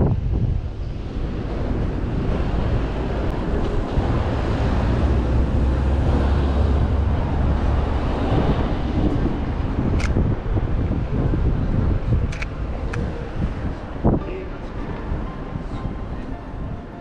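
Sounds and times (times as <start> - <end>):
street traffic: 0.0 - 17.0
wind rumbling on microphone: 0.0 - 17.0.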